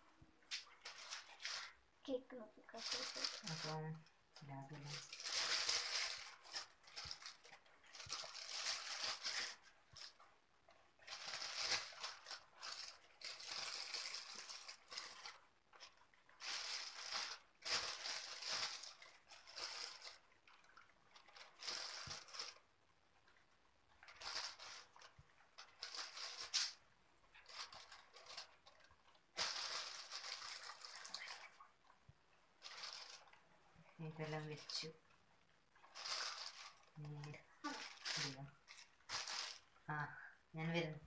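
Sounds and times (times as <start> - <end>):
packaging rustling and crinkling: 0.4 - 39.9.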